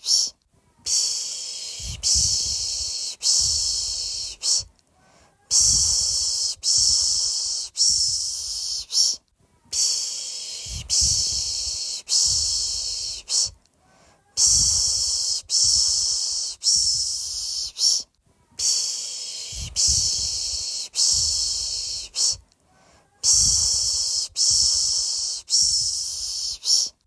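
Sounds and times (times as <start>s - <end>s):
person shushing rhythmically: 0.0s - 4.7s, 5.3s - 13.6s, 14.2s - 22.4s, 23.1s - 27.0s.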